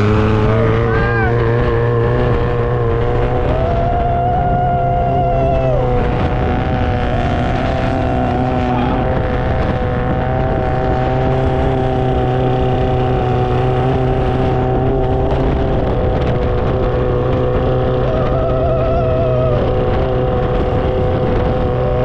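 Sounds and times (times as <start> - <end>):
boat engine running: 0.0 - 22.0
wind: 0.0 - 22.0.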